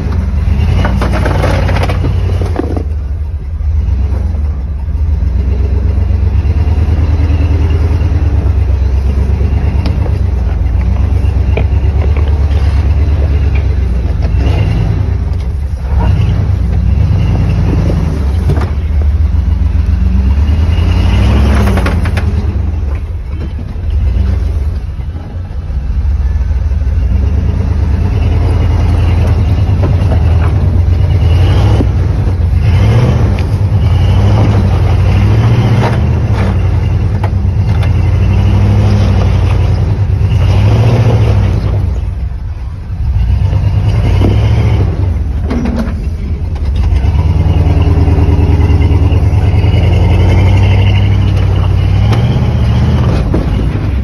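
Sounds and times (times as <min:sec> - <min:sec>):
off-road engine revving under load: 0:03.5 - 0:24.8, 0:25.9 - 0:54.0.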